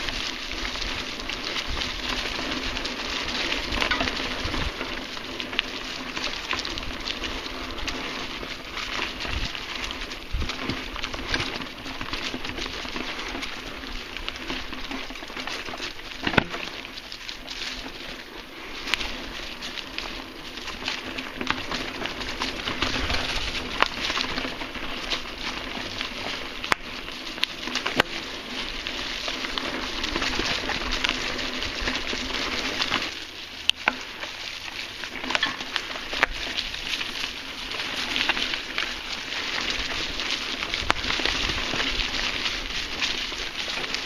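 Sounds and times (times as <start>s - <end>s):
bike tyres crunching dry leaves: 0.0s - 44.0s.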